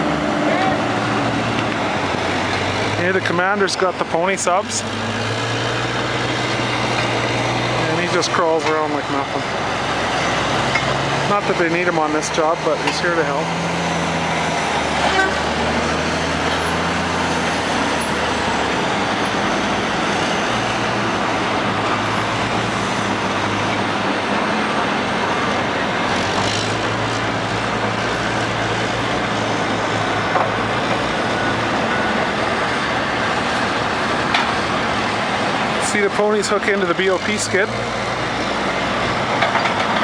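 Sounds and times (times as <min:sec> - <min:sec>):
heavy diesel engines under load: 0:00.0 - 0:40.0.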